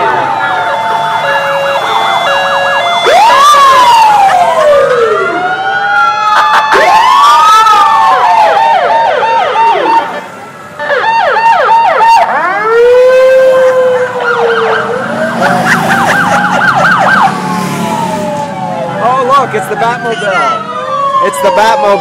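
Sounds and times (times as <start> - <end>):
overlapping vehicle sirens: 0.0 - 22.0.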